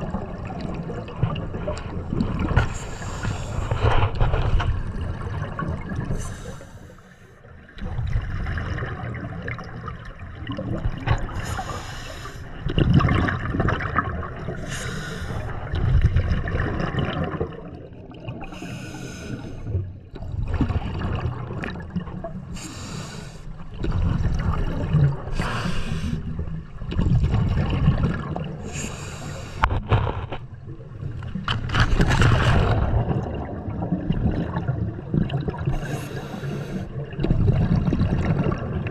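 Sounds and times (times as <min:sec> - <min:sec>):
exhaust bubbles gurgling: 0:00.0 - 0:06.9, 0:07.6 - 0:38.9.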